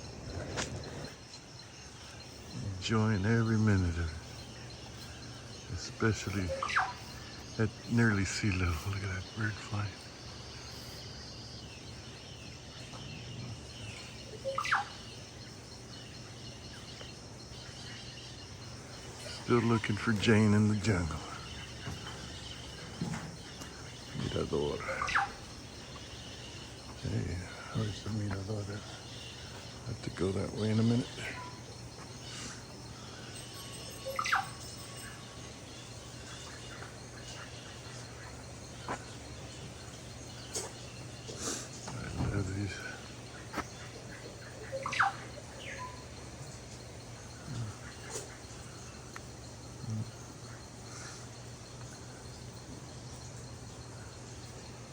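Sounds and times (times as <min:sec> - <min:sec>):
birds whistling: 0:00.0 - 0:54.8
low background hum: 0:00.0 - 0:54.9.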